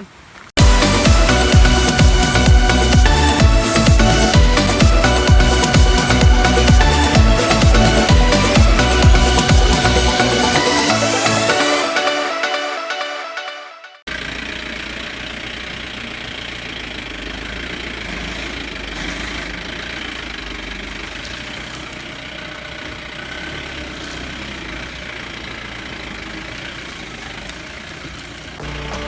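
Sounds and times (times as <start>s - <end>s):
car engine running steadily: 0.6s - 11.5s, 14.1s - 29.0s.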